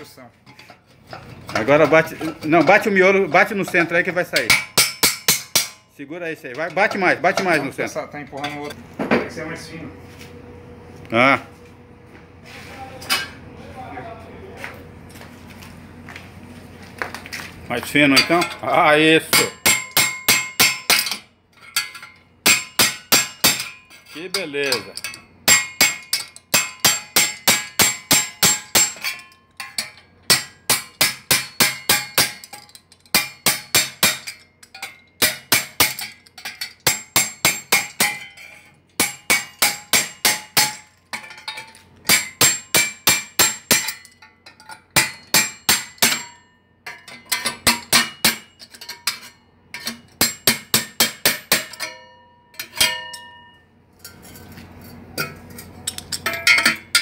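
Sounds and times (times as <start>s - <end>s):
metal ringing: 0.0s - 8.8s, 18.0s - 57.0s.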